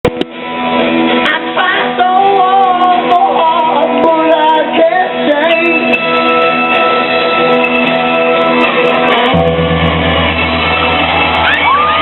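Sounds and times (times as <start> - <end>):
guitar music: 0.1 - 12.0.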